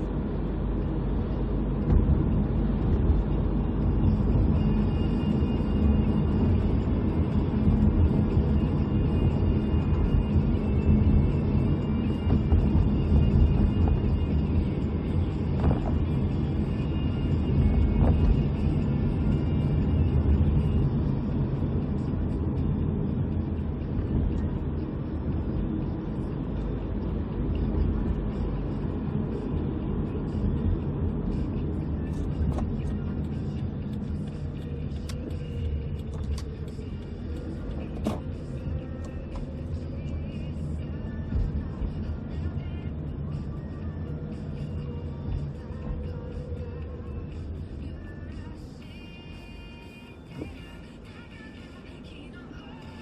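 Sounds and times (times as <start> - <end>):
car interior rumble: 0.0 - 53.0.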